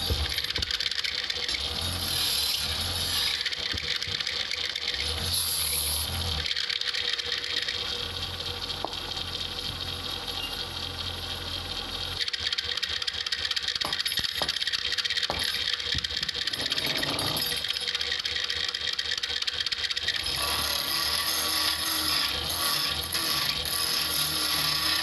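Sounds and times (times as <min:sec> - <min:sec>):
lathe motor hum: 0:00.0 - 0:25.0
tool cutting spinning wood: 0:00.0 - 0:25.0.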